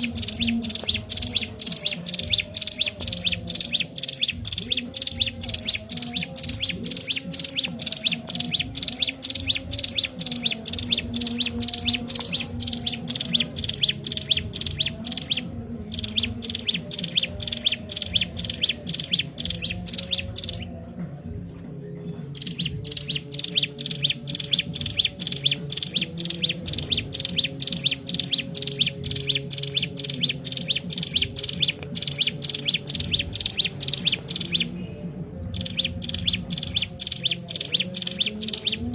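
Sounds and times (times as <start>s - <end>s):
bird chirping sharply: 0.0s - 20.8s, 22.3s - 34.9s, 35.5s - 38.9s.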